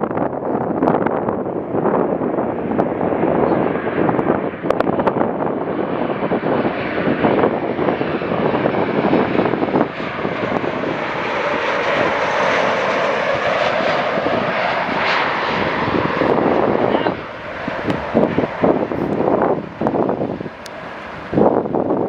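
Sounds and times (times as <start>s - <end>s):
jet engine rush: 0.0s - 22.0s
jet engine whine: 0.0s - 22.0s.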